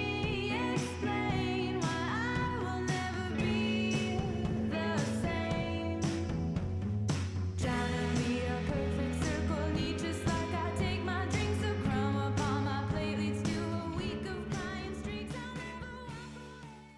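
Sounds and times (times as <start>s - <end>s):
pop song with singing: 0.0s - 6.9s, 7.6s - 16.9s.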